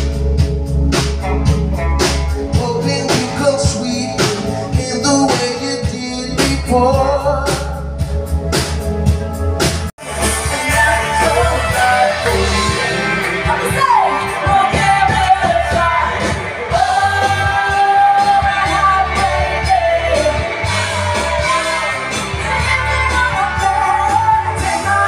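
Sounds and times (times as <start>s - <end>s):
live band playing: 0.0s - 25.0s.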